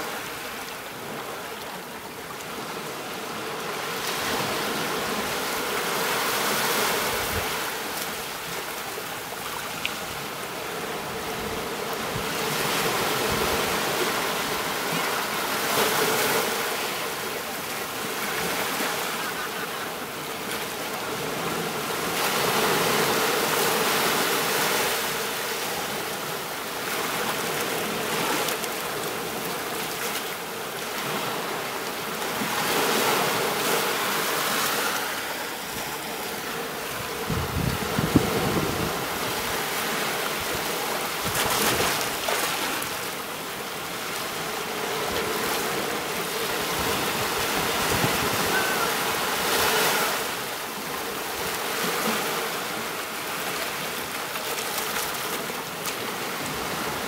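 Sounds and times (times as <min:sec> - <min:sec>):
small waves breaking on beach: 0:00.0 - 0:57.0.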